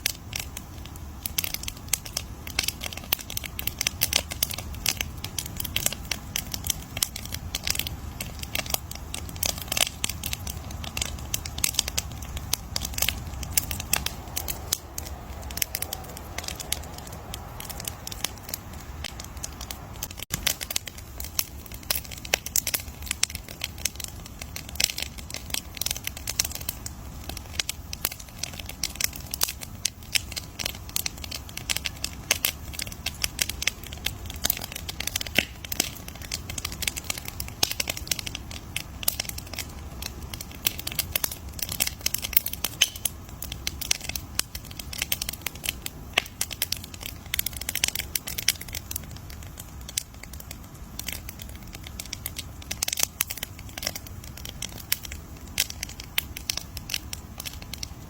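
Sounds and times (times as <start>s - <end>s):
campfire crackling and popping: 0.0s - 58.0s
low steady rumble: 0.0s - 58.0s.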